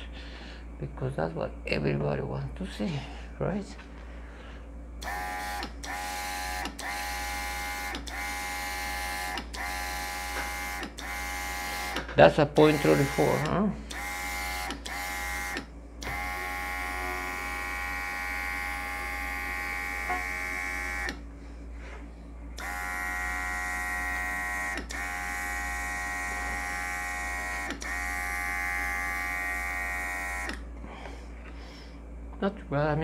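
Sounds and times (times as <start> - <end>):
small compressor motor whining: 5.0 - 32.0.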